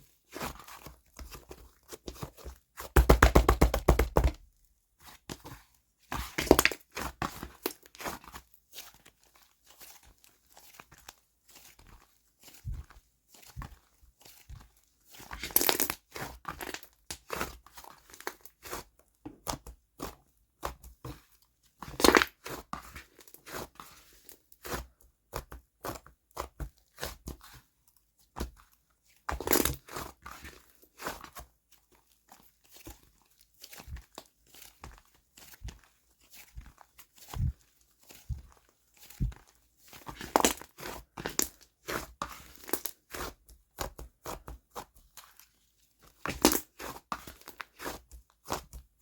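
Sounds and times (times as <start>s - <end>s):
slime being squished by hand: 5.0s - 27.6s, 29.3s - 49.0s.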